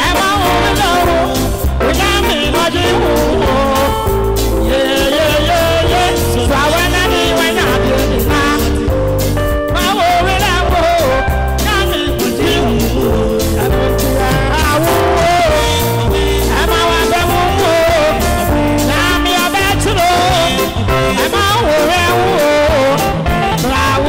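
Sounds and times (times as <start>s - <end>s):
man singing into a microphone: 0.0s - 9.0s, 9.7s - 24.0s
heavy bass beat: 0.0s - 24.0s
held chords: 0.0s - 24.0s.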